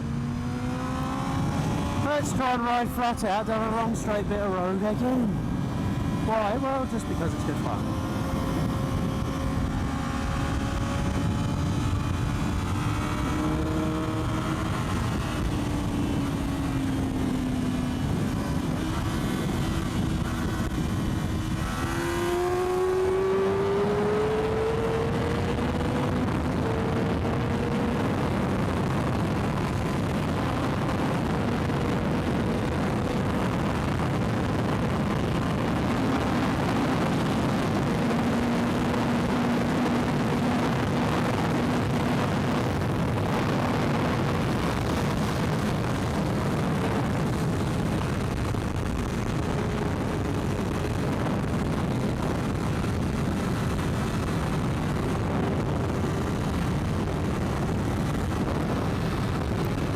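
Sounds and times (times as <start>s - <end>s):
motorcycle engine at high revs: 0.0s - 59.9s
wind rushing: 0.0s - 59.9s.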